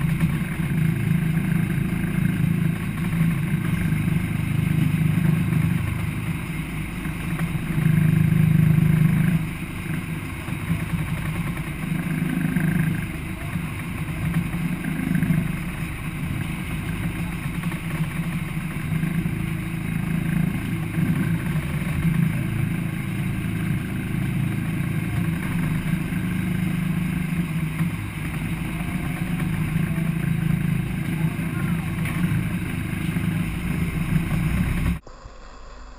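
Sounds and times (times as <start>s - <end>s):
boat engine rumbling: 0.0s - 35.9s.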